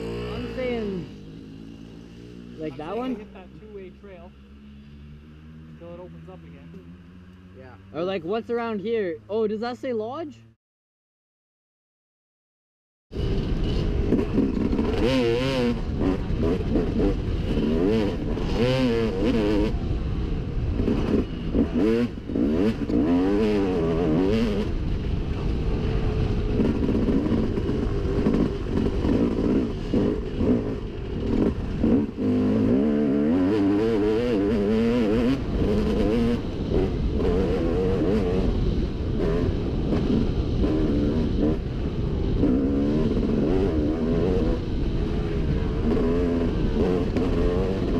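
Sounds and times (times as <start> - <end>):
dirt bike engine revving: 0.0 - 9.6, 13.2 - 47.9.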